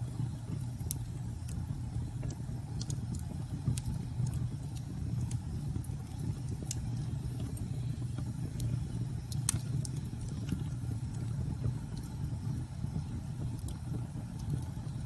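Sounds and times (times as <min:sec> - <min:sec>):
fire snapping and popping: 0:00.0 - 0:15.0
wood fire crackling: 0:00.0 - 0:15.0.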